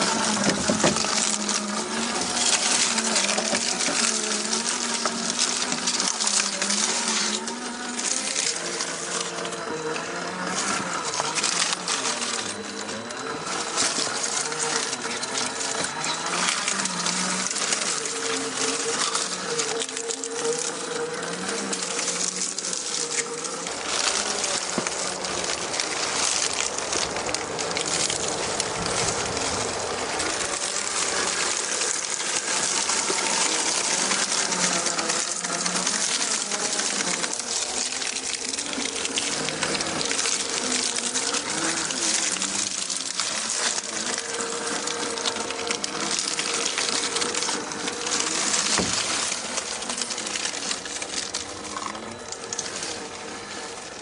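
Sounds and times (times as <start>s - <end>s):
toy car electric motor whining: 0.0s - 54.0s.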